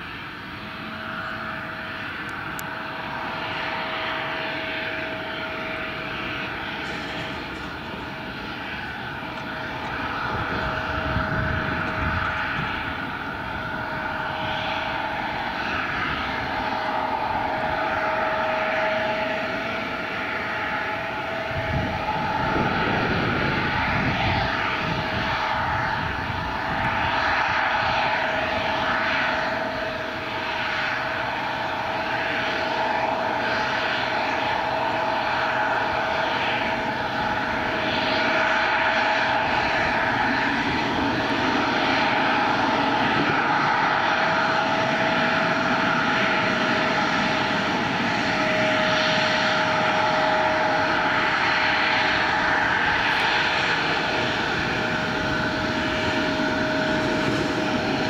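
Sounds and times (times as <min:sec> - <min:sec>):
jet engine rushing noise: 0:00.0 - 0:58.0
jet engine whine: 0:00.0 - 0:58.0.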